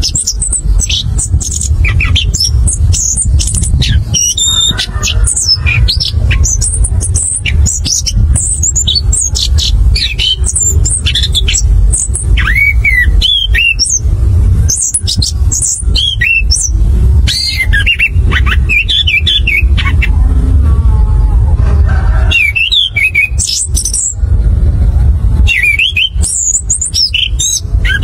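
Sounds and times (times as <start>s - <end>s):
steady low rumble: 0.0s - 28.0s
thrush singing: 0.0s - 28.0s.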